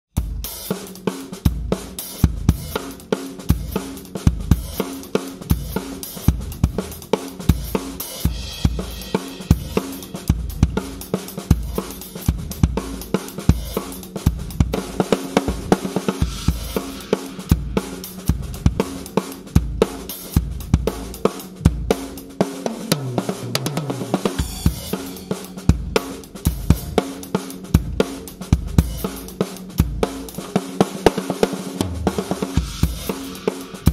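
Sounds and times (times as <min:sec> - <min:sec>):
drum kit playing groove: 0:00.1 - 0:33.9.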